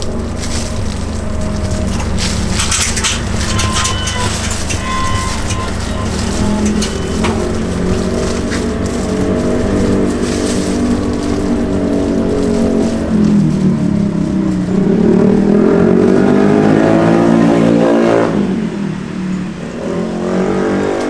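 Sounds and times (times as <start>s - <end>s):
light clicks and clatter: 0.0s - 17.4s
engine rumbling: 0.0s - 21.0s.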